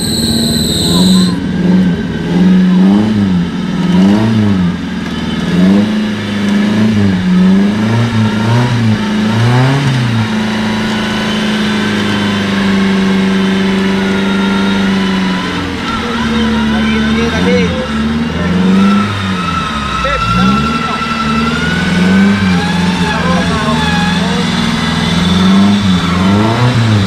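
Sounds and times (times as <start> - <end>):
off-road engine revving: 0.0 - 27.0.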